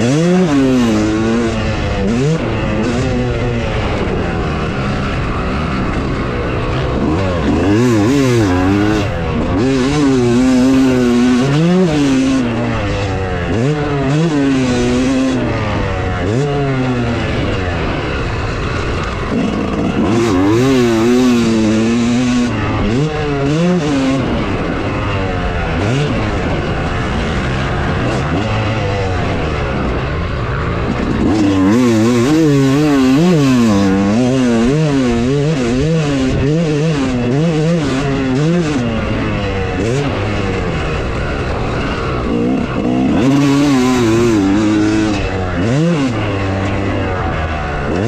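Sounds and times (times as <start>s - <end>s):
motocross bike engine revving: 0.0s - 48.0s.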